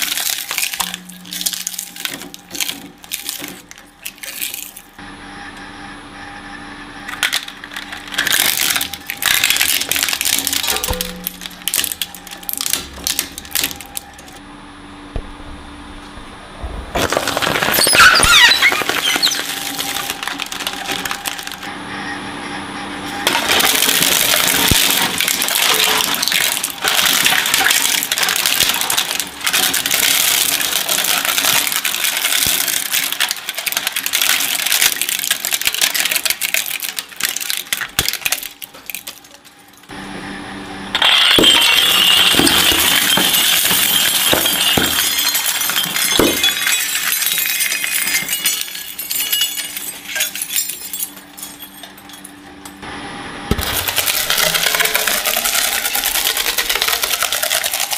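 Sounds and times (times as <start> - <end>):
discs cracking and shattering: 0.0 - 5.0, 7.1 - 14.4, 17.0 - 21.7, 23.2 - 39.9, 41.0 - 52.2, 53.5 - 57.9
plastic balls cracking: 0.0 - 5.0, 7.1 - 14.4, 17.0 - 21.7, 23.2 - 39.5, 41.0 - 50.7, 53.5 - 57.9
shredder crushing ball: 0.0 - 5.0, 7.0 - 14.4, 16.9 - 21.7, 23.1 - 40.0, 40.9 - 51.7, 53.5 - 57.9.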